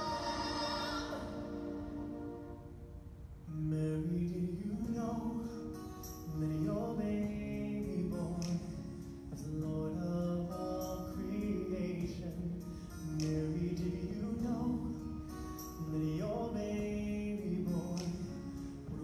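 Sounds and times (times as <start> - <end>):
song with singing: 0.0 - 2.7, 3.5 - 19.0.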